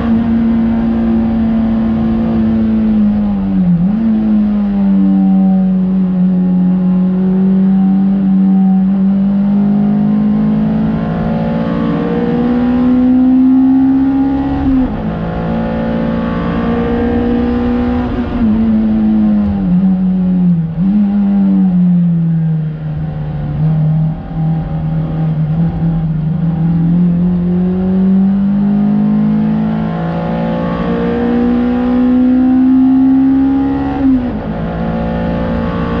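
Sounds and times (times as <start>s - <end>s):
race car engine under load: 0.0s - 36.0s.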